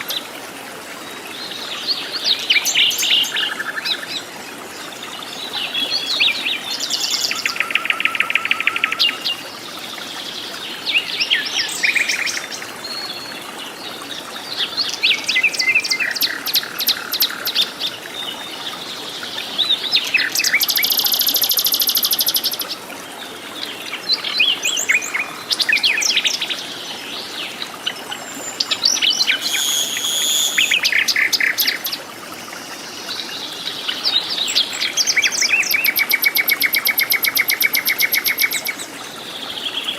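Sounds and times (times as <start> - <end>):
jungle birds singing: 5.2 - 9.6, 10.4 - 22.8, 23.6 - 32.0, 32.6 - 39.9.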